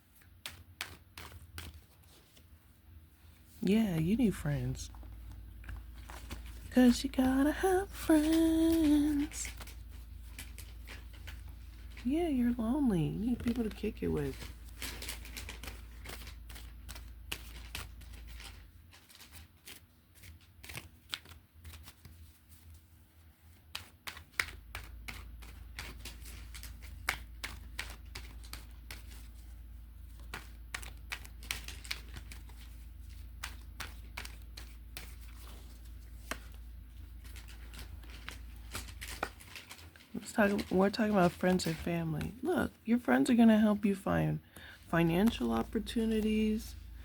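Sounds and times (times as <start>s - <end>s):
cards being shuffled: 0.1s - 2.6s, 4.0s - 42.5s.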